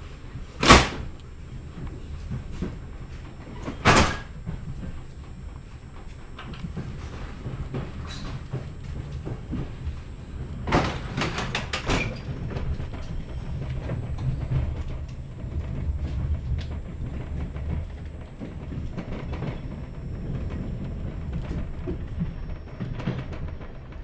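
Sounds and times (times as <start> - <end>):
train coach rumble: 0.0 - 24.0.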